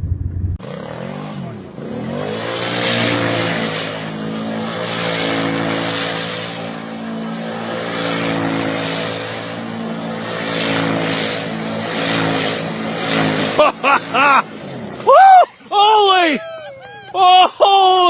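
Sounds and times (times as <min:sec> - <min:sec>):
car engine drone: 0:00.0 - 0:18.0
tyre and road noise: 0:00.0 - 0:18.0.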